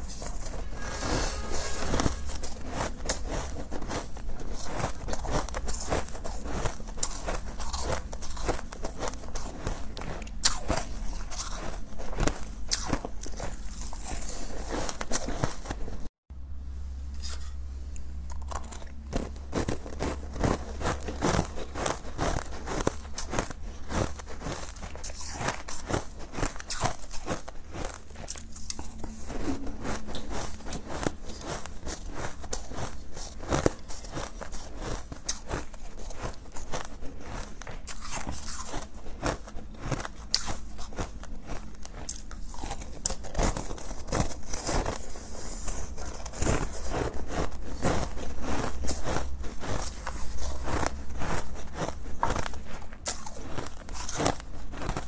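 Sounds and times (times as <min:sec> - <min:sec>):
crunching shaved ice: 0:01.8 - 0:15.7, 0:18.3 - 0:55.0.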